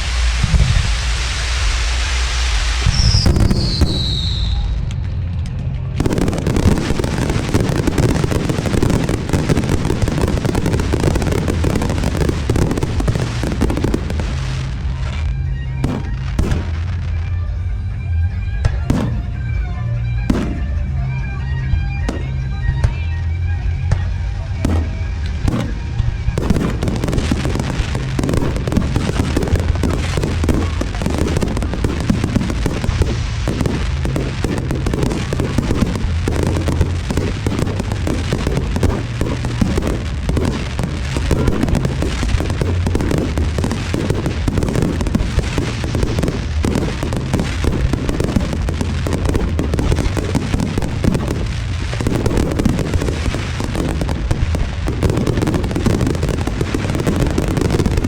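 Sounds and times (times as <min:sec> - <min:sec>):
fireworks bursting and crackling: 0:00.0 - 0:17.6, 0:18.5 - 0:58.0.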